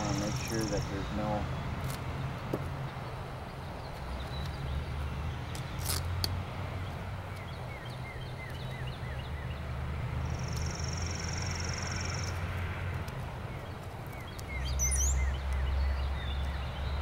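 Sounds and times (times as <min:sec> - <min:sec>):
small birds chirping: 0:00.0 - 0:06.0, 0:06.8 - 0:17.0.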